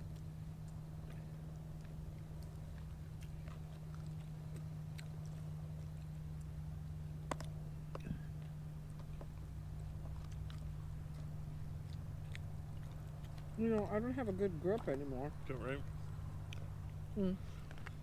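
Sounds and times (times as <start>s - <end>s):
person chewing food: 0.0s - 18.0s
steady low hum: 0.0s - 18.0s.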